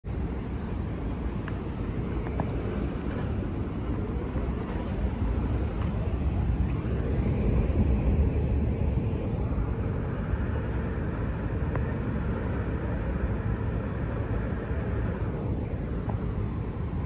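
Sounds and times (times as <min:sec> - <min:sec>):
elevator low rumble: 0:00.0 - 0:17.0
faint hum: 0:00.1 - 0:17.0.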